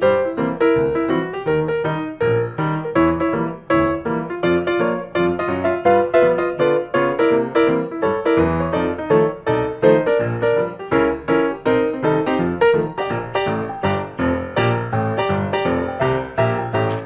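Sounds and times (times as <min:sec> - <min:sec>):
bouncy piano tune: 0:00.0 - 0:17.0.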